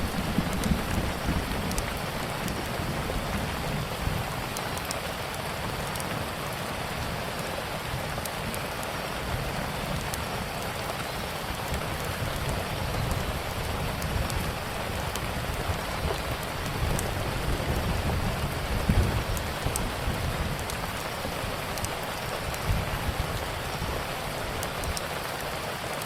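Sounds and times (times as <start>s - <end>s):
steady rain: 0.0s - 26.0s
wood fire crackles: 0.0s - 26.0s.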